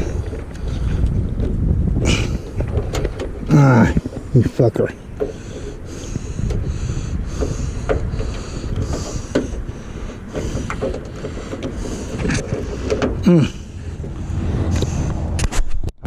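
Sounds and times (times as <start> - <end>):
low wind rumble on microphone: 0.0 - 16.0.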